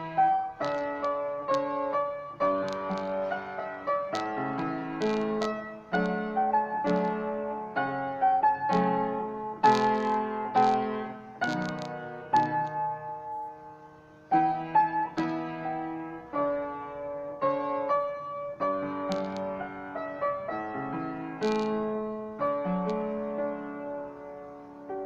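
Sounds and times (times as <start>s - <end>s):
solo piano chords: 0.0s - 25.0s.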